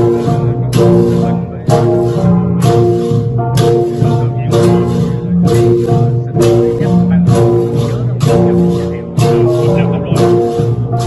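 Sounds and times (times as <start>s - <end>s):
bronze gongs ringing: 0.0s - 11.0s.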